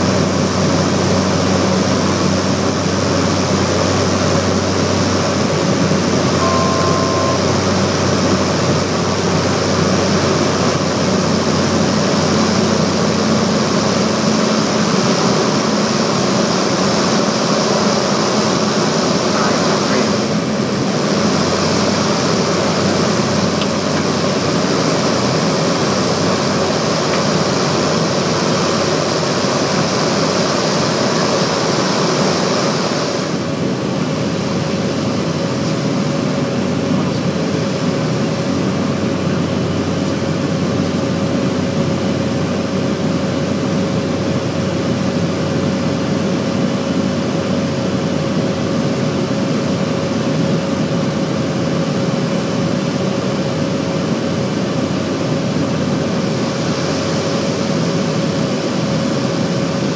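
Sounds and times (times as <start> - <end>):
turboprop engine droning: 0.0 - 59.9.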